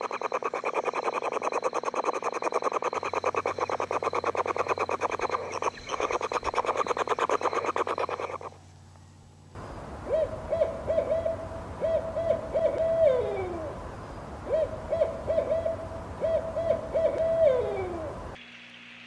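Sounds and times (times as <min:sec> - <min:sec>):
owl hooting: 0:00.0 - 0:08.6, 0:10.0 - 0:13.8, 0:14.4 - 0:18.4.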